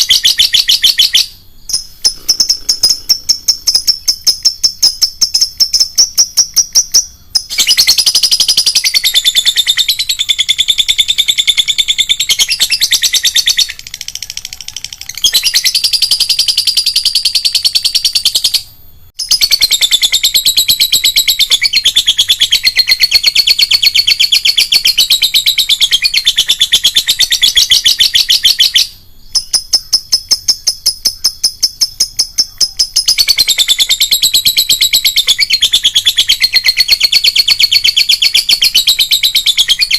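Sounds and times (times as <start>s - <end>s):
lovebird shrill chattering trills: 0.0s - 18.6s, 19.2s - 39.9s.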